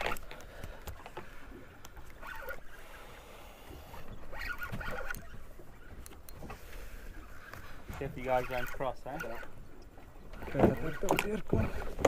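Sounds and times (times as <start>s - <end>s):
boat low rumble: 0.0s - 12.0s.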